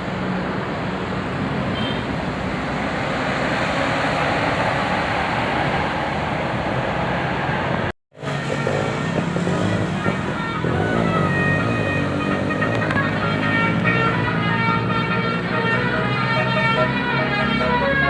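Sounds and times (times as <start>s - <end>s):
passing vehicles: 0.0s - 18.0s.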